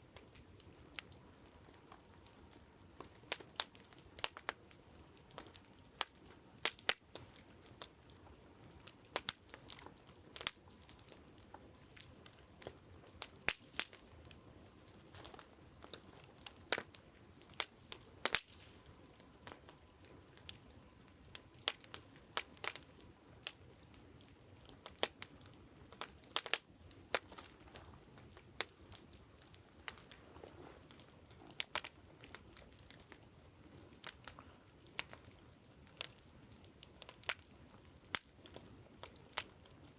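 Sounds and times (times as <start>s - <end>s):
campfire crackling: 0.0s - 39.9s
faint background hiss: 0.0s - 39.9s.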